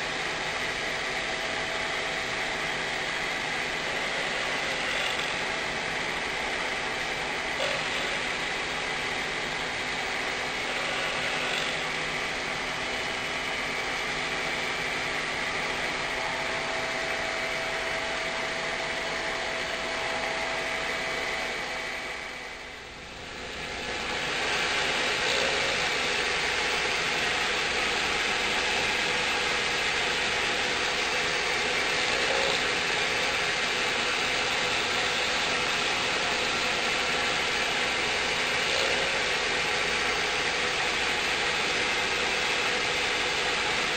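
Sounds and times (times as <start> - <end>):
cnc router whirring: 0.0 - 43.9.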